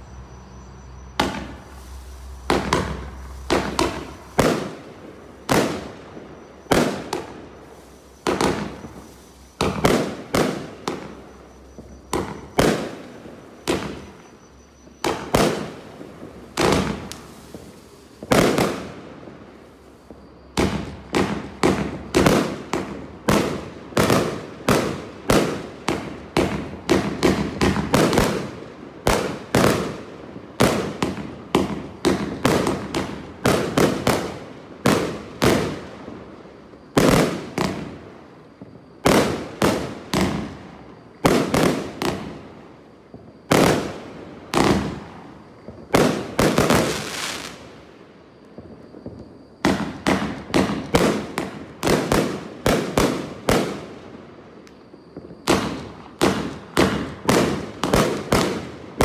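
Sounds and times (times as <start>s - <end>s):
firework bangs: 0.0s - 59.0s.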